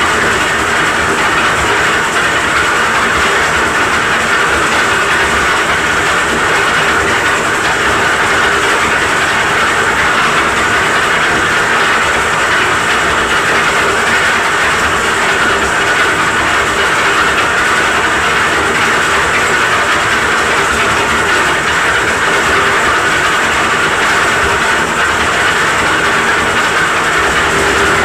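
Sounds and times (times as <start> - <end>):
concrete mixer engine clattering: 0.0 - 28.0.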